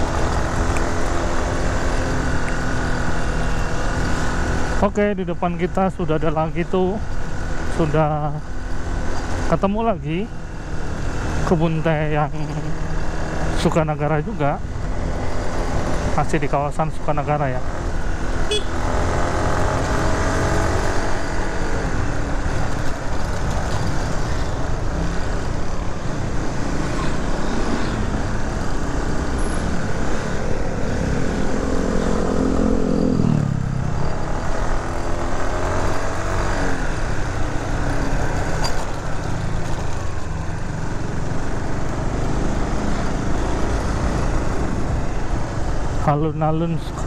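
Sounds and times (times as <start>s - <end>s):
road noise: 0.0s - 47.0s.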